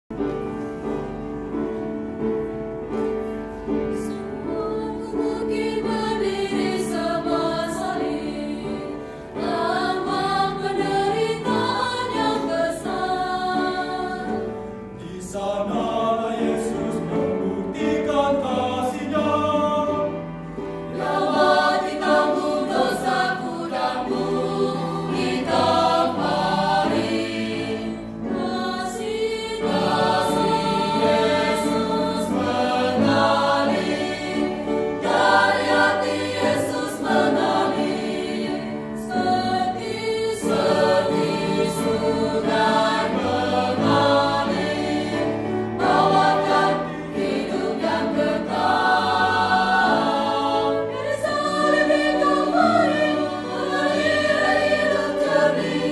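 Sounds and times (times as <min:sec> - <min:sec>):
mixed choir singing praise song: 0:02.9 - 0:55.9.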